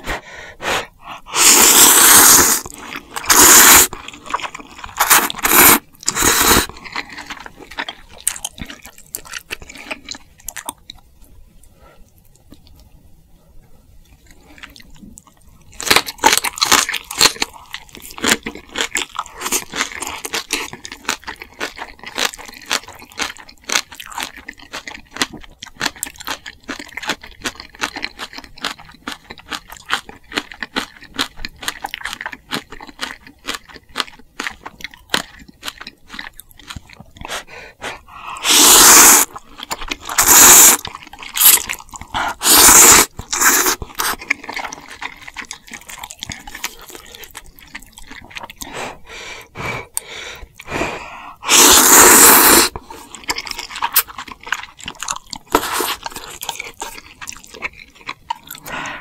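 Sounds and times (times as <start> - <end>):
chewing and crunching food: 1.0 - 13.0, 13.6 - 59.0.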